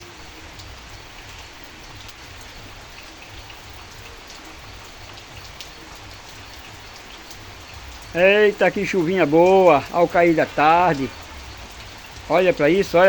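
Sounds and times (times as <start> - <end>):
light rain falling: 0.0 - 13.0
raindrops ticking: 0.0 - 13.0.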